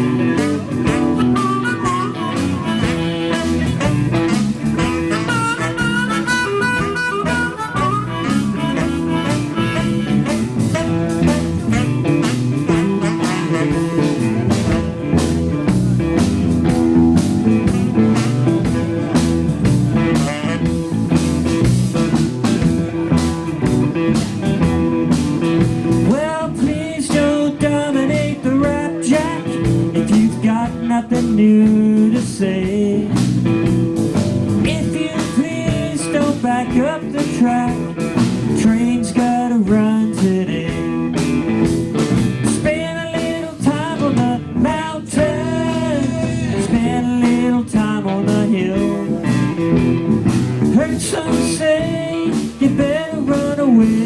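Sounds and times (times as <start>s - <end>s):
bending lead guitar line: 0.0s - 54.0s
rock band jamming: 0.0s - 54.0s.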